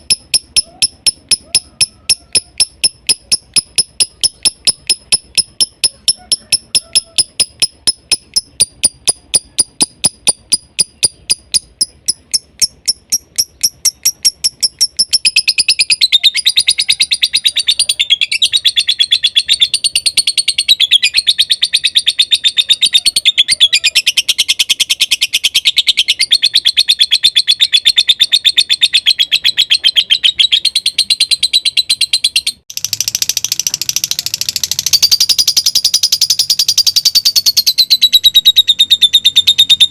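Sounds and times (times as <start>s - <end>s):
lovebird chirping: 0.0s - 39.9s.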